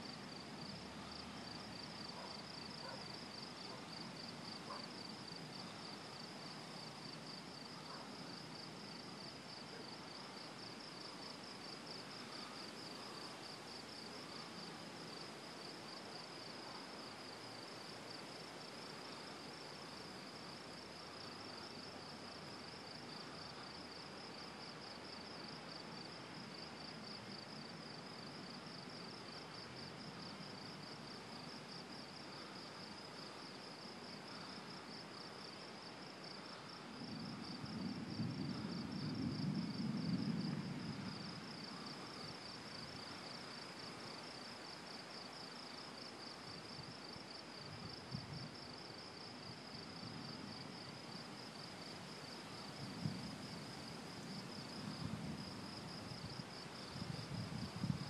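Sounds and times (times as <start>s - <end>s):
faint hiss: 0.0s - 58.0s.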